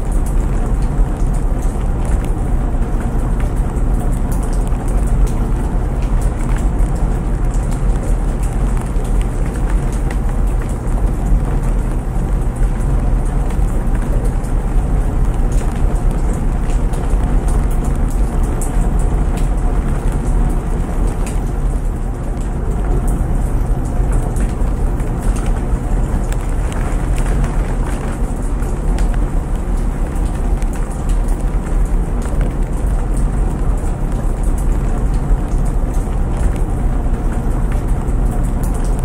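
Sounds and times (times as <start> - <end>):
steady rain: 0.0 - 39.0
washing machine rumble: 0.0 - 39.0.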